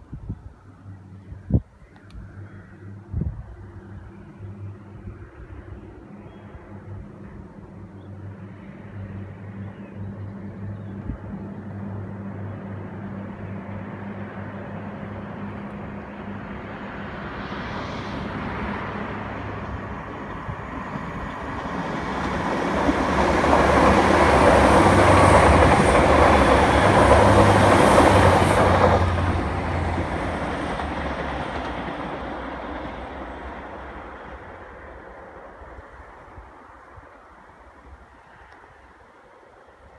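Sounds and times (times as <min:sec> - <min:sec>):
diesel train passing: 0:00.0 - 0:39.9.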